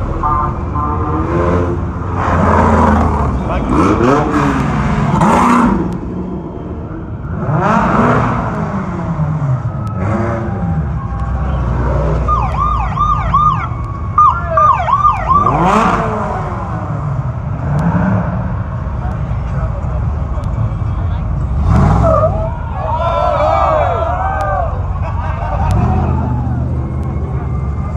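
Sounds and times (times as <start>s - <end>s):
race vehicle engines revving: 0.0s - 27.9s.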